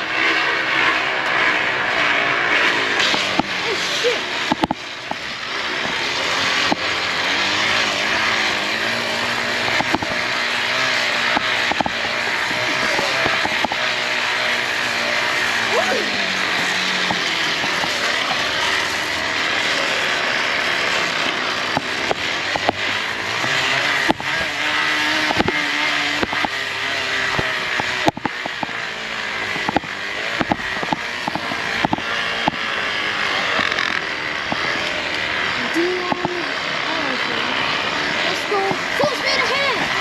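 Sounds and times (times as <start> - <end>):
bicycle noisemaker rushing hiss: 0.0 - 40.0.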